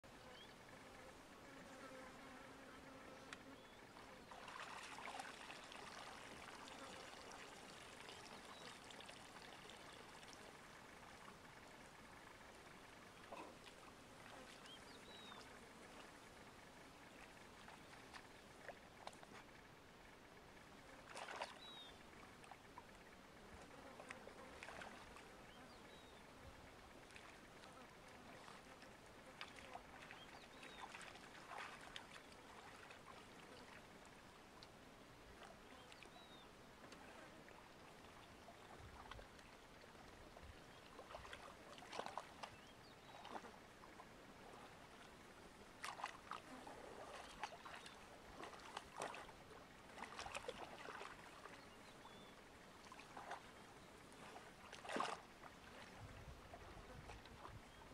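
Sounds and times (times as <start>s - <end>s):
animals splashing in muddy water: 1.8s - 57.9s.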